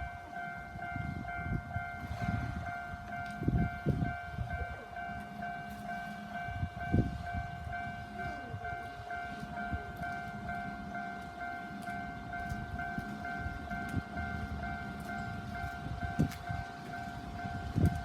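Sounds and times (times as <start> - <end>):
level crossing warning bell: 0.0 - 18.0
train passing rumble: 0.0 - 18.0.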